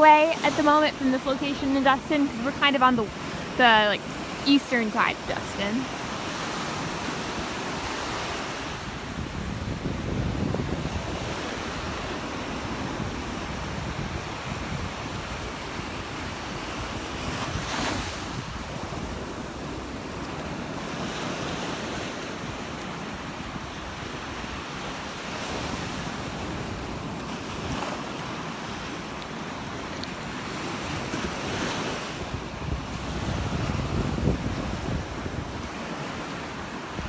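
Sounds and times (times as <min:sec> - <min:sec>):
wind buffeting microphone: 0:00.0 - 0:28.2, 0:30.4 - 0:37.0
surf breaking on beach: 0:00.0 - 0:37.0.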